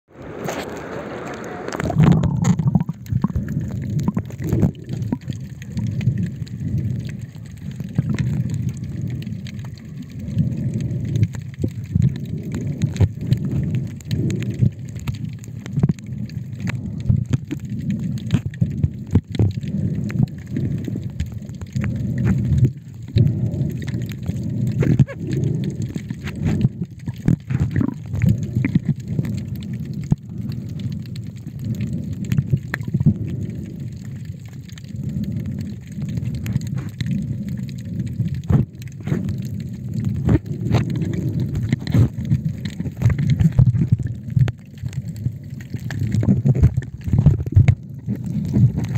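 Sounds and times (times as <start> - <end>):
muffled underwater rumble: 0.1 - 48.9
open-air water sound: 0.1 - 48.9.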